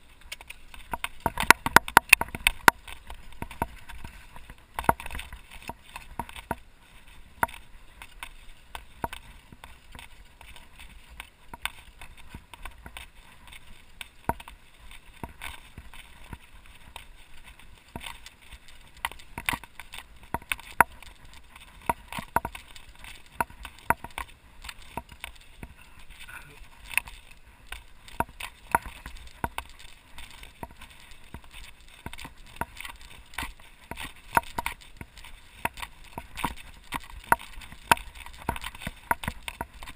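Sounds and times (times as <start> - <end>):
mountain bike rattling: 0.0 - 39.9
chain and frame clicking: 7.4 - 39.9.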